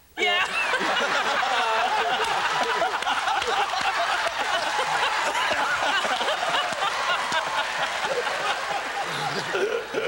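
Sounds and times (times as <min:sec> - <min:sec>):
audience laughing: 0:00.4 - 0:10.0.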